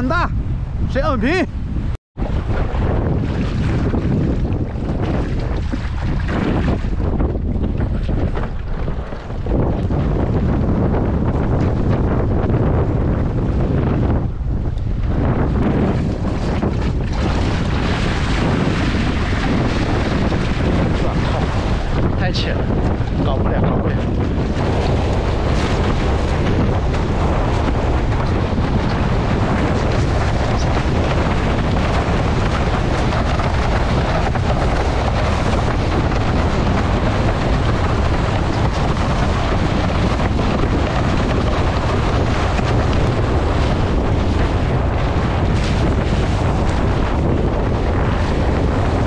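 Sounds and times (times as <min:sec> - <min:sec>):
strong wind on microphone: 0:00.0 - 0:49.0.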